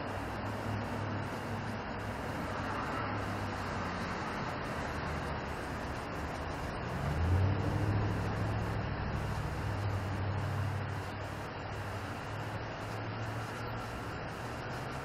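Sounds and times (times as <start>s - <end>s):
low engine hum: 0.0s - 15.0s
traffic rumble: 0.0s - 15.0s.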